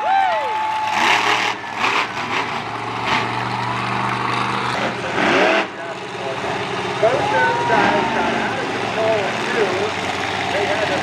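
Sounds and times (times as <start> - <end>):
monster truck engines revving: 0.0 - 11.0.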